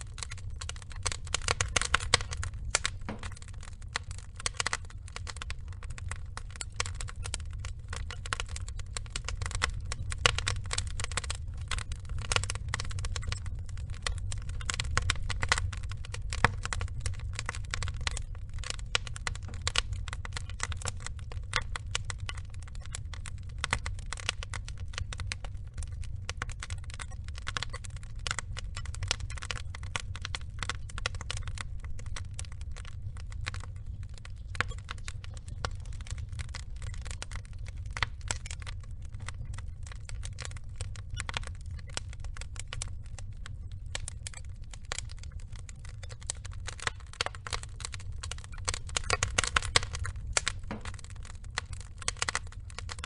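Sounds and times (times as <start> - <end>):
logs crackling in a fire: 0.0 - 53.0
low steady rumble: 0.0 - 53.0.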